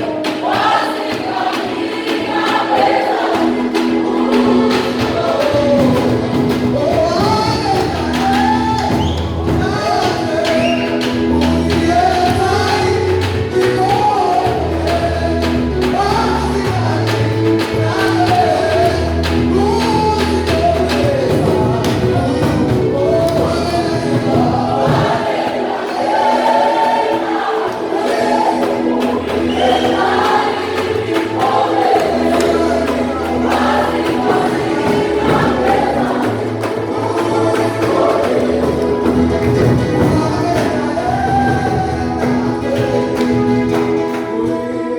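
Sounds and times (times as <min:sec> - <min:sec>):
quick percussion strokes: 0:00.0 - 0:44.7
choir singing gospel song: 0:00.0 - 0:44.9
bass line: 0:03.5 - 0:25.3, 0:28.4 - 0:44.1.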